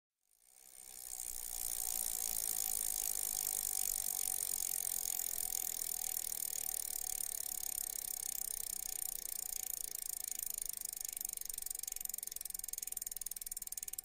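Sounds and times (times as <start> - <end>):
bike tyre and drivetrain noise: 0.6 - 14.0.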